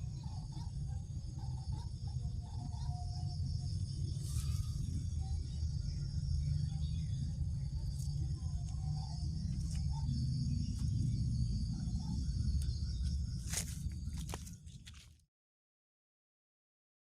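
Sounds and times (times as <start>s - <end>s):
low rumble: 0.0s - 14.6s
insects chirring: 0.0s - 15.2s.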